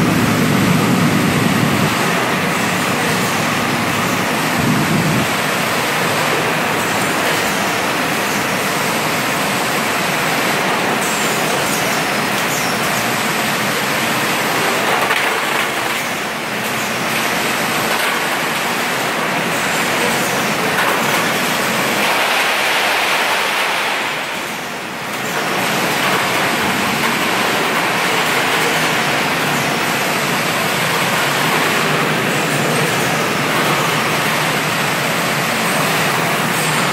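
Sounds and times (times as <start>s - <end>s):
machinery hissing and humming: 0.0s - 36.9s.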